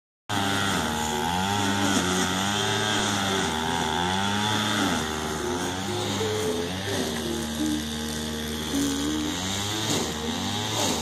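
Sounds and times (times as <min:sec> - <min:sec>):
string trimmer engine revving: 0:00.3 - 0:11.0.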